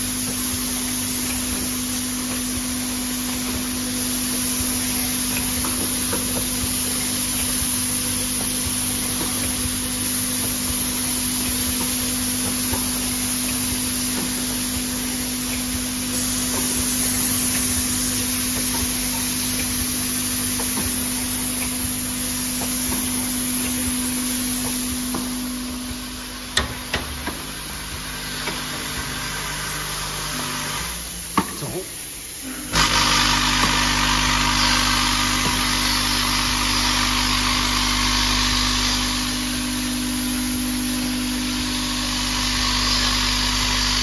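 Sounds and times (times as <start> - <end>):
bottling machine humming: 0.0 - 44.0.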